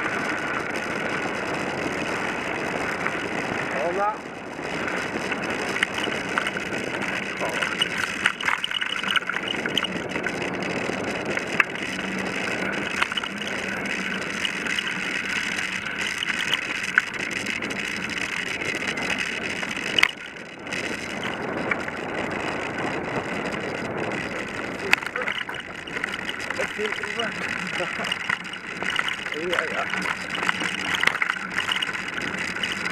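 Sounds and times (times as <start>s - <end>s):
bicycle rattling and clicking: 0.0s - 32.9s
bicycle tyres on gravel: 0.0s - 32.9s.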